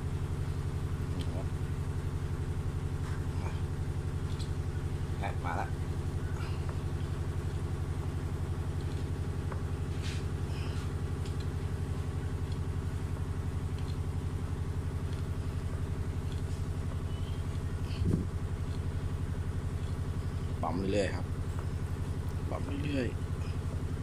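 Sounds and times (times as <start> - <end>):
low engine-like drone: 0.0 - 24.0.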